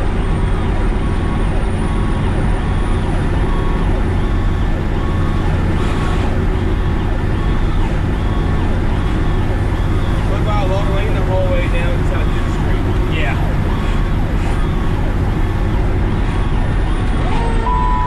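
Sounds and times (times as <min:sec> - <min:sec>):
fire truck engine rumble: 0:00.0 - 0:18.0
siren cycling up and down: 0:00.0 - 0:18.0.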